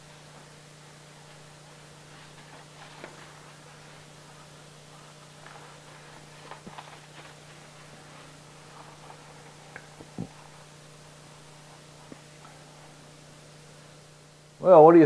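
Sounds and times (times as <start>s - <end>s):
faint hum and hiss: 0.0s - 15.0s
soft clicks and rustles: 0.2s - 12.9s.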